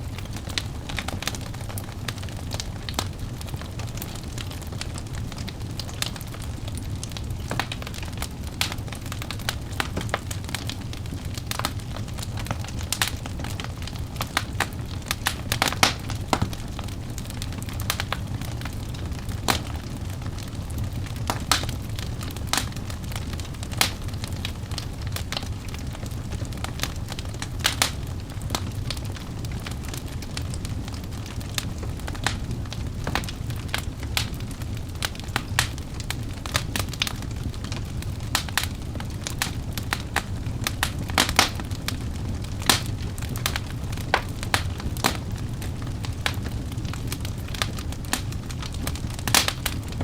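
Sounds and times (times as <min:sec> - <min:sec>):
fire crackling and popping: 0:00.0 - 0:50.0
low rumble of flame: 0:00.0 - 0:50.0.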